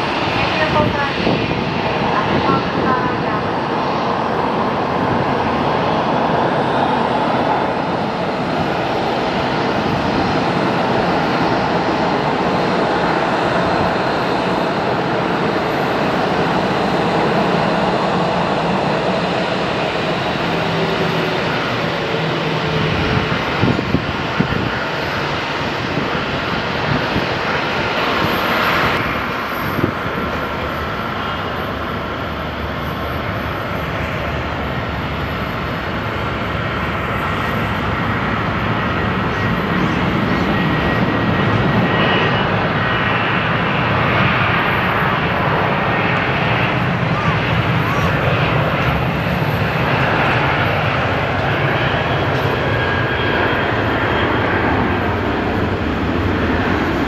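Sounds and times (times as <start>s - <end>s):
airliner engines running: 0.0s - 57.0s.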